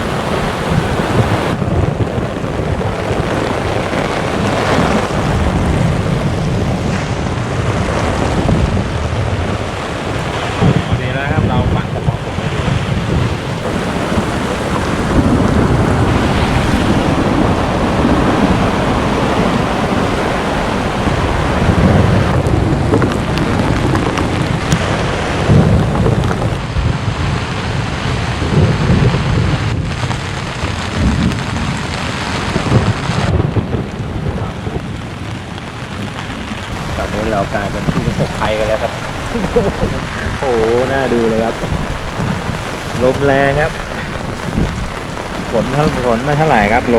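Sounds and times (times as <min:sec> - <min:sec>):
gusting wind buffeting microphone: 0:00.0 - 0:46.9
rain: 0:00.0 - 0:46.9.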